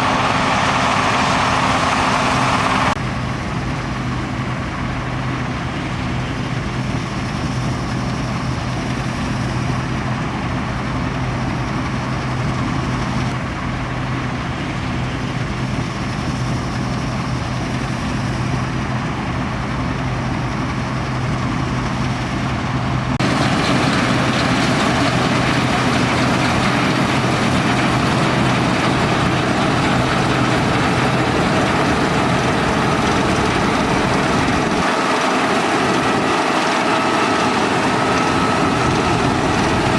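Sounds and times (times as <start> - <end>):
combine harvester diesel drone: 0.0 - 39.9
machinery noise: 0.0 - 39.9.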